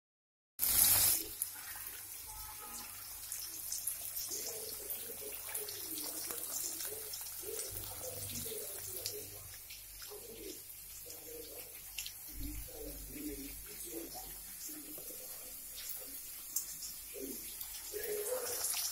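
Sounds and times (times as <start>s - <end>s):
tomatoes sizzling in oil: 0.6s - 18.9s.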